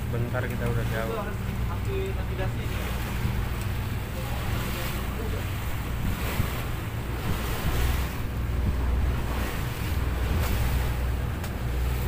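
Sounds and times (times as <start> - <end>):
speedboat engine drone: 0.0 - 12.0
water rushing along hull: 0.0 - 12.0
wind buffeting microphone: 0.0 - 12.0.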